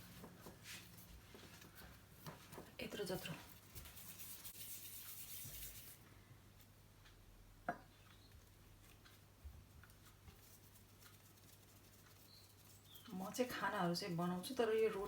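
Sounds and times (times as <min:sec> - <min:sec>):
faint rubbing of dough: 0:00.0 - 0:06.7, 0:08.7 - 0:15.0.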